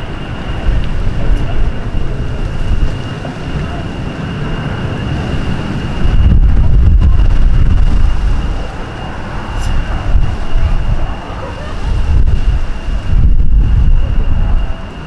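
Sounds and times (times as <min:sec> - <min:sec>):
steady high-pitched whine: 0:00.0 - 0:15.0
wind buffeting microphone: 0:00.0 - 0:15.0.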